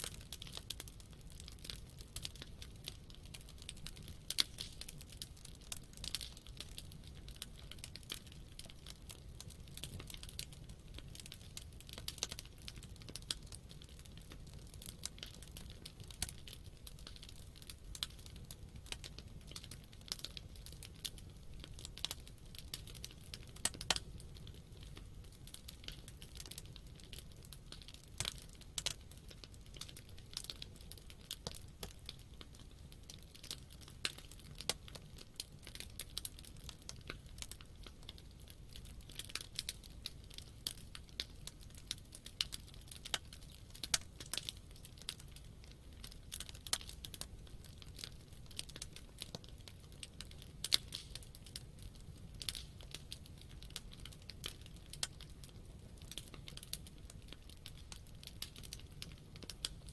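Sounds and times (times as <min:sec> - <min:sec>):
campfire crackling and popping: 0:00.0 - 0:59.9
low rumble of fire: 0:00.0 - 0:59.9.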